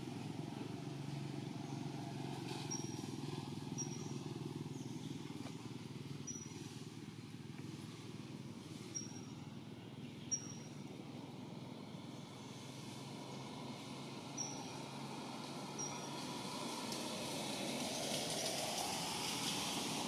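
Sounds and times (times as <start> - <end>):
distant vehicle engine rumble: 0.0 - 20.0.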